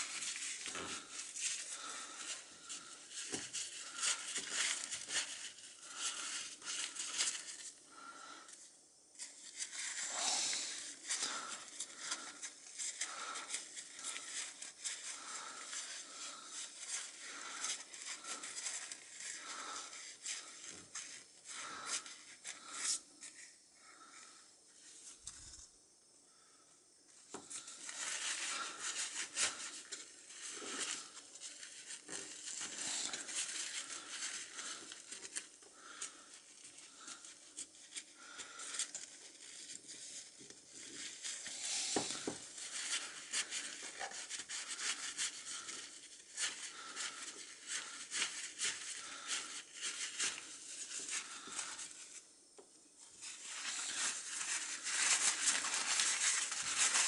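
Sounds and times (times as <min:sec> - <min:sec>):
paper towel crinkling: 0:00.0 - 0:25.7, 0:27.2 - 0:52.3, 0:53.0 - 0:57.0.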